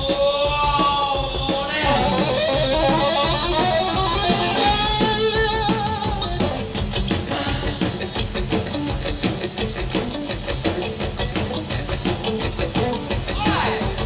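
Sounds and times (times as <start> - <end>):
bass and drums: 0.0 - 14.0
electric guitar bending lead: 0.0 - 14.0.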